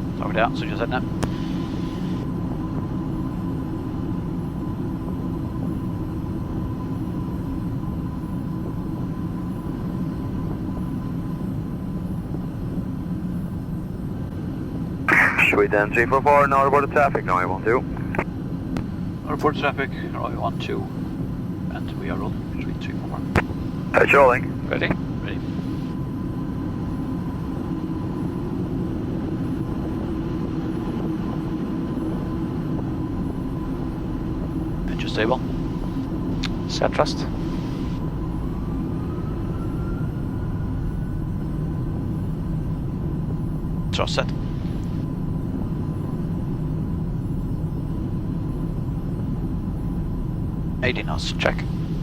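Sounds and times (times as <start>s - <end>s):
aircraft cockpit rumble: 0.0s - 52.0s
faint steady whine: 0.0s - 52.0s.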